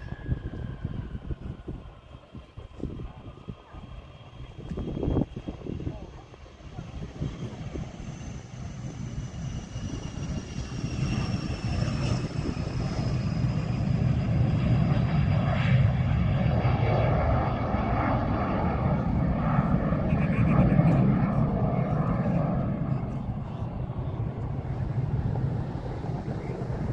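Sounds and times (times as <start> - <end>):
aircraft engine rumble: 0.0 - 26.9
aircraft turbine whine: 0.0 - 26.9.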